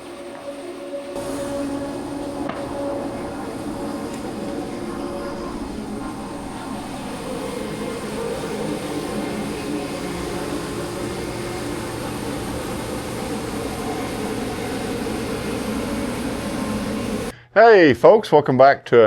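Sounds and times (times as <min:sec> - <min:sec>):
machine humming: 0:00.0 - 0:17.3.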